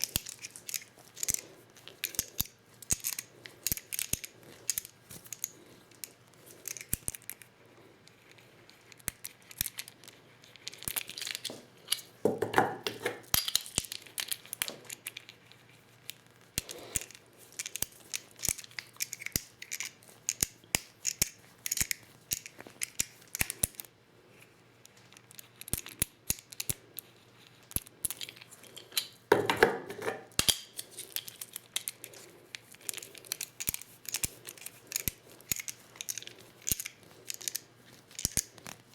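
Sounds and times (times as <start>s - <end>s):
shotgun shells clicking and rattling: 0.0s - 7.5s, 8.2s - 12.2s, 12.9s - 15.4s, 16.2s - 23.9s, 24.9s - 38.9s.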